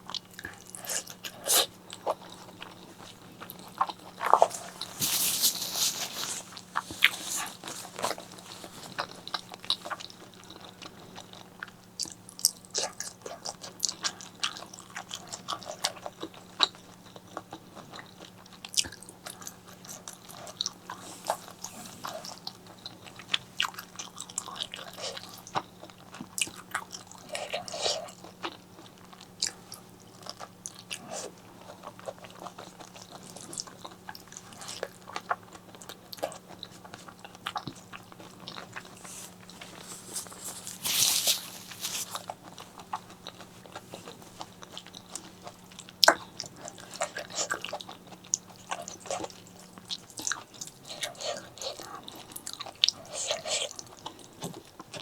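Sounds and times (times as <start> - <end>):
chewing with wet mouth clicks: 0.0 - 5.0, 5.6 - 55.0.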